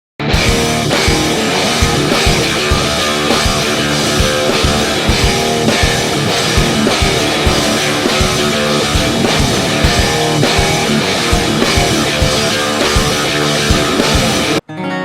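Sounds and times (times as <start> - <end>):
rock music with guitars and drums: 0.2 - 14.6.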